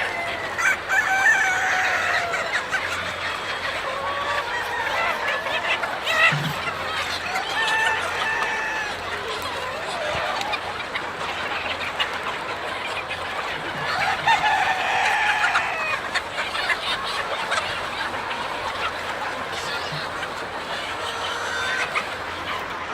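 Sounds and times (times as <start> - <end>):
chickens clucking: 0.0 - 22.9
drawn-out chicken call: 0.0 - 22.9.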